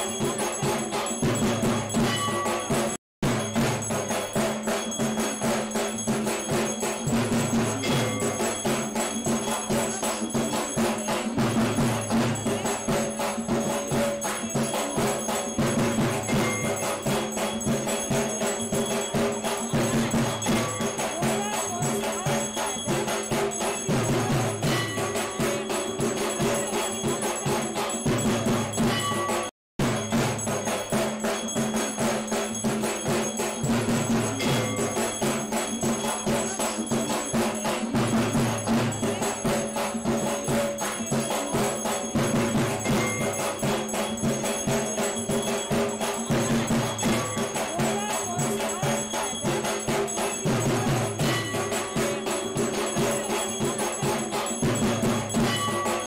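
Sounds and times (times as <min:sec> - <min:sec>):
fast percussive music with bells: 0:00.0 - 0:56.0.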